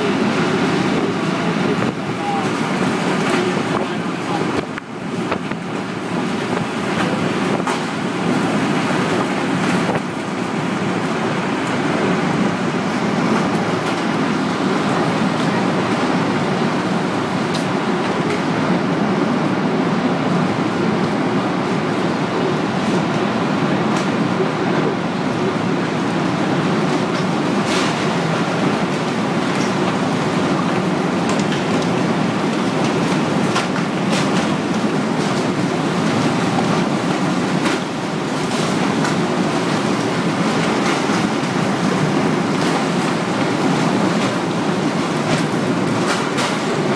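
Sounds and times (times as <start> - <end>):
tornado wind rumble: 0.0 - 46.9.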